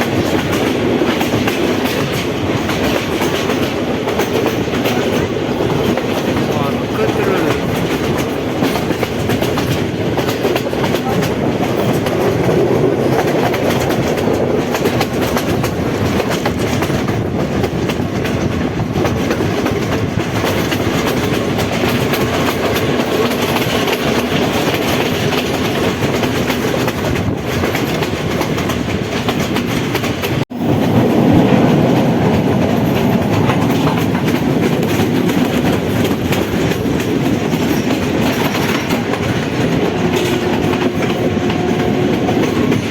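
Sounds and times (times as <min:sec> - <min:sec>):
train rumbling on track: 0:00.0 - 0:42.9
wheels clattering over rail joints: 0:00.0 - 0:42.9.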